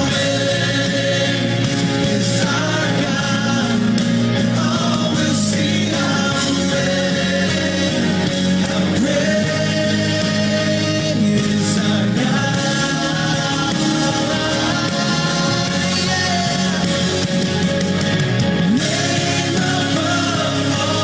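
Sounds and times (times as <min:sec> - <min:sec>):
person singing worship song: 0:00.0 - 0:17.4, 0:18.7 - 0:21.0
band accompaniment: 0:00.0 - 0:21.0.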